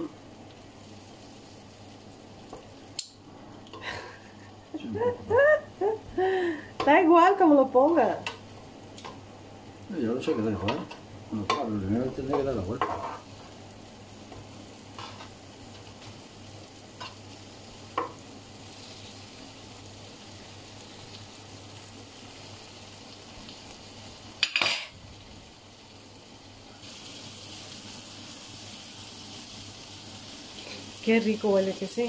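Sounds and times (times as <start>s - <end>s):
prawns sizzling in a pan: 0.0s - 32.0s.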